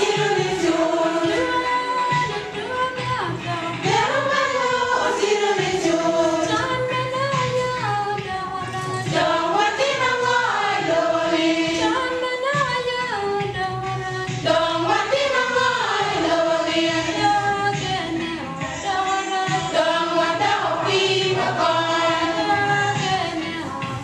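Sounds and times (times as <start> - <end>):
women's choir singing: 0.0 - 24.0.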